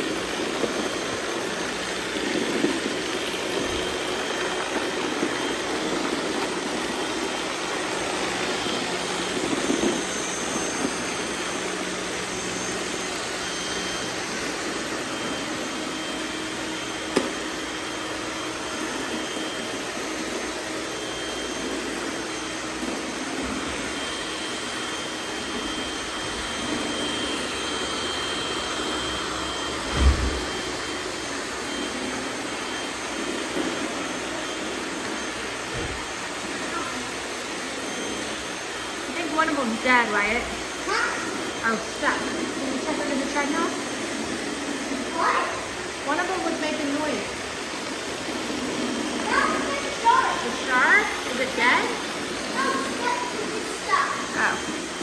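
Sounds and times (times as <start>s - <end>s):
robot vacuums whirring: 0.0s - 55.0s.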